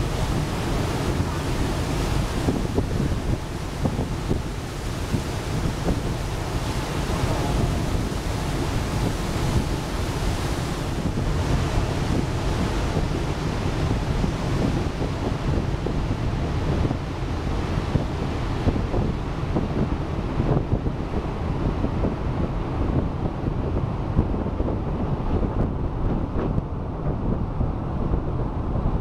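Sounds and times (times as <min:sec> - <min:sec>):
water and waves rushing: 0:00.0 - 0:29.0
wind buffeting microphone: 0:00.0 - 0:29.0.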